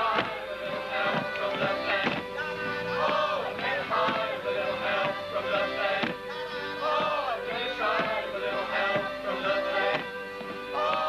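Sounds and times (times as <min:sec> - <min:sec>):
folk dance tune on accordion: 0:00.0 - 0:11.0.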